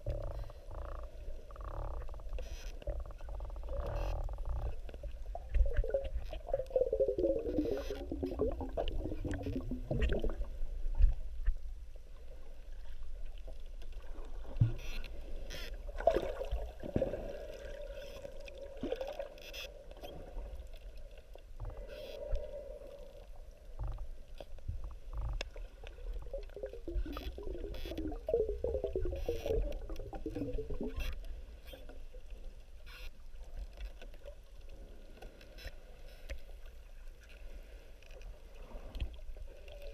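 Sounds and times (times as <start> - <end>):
boat motor underwater: 0.0 - 33.1.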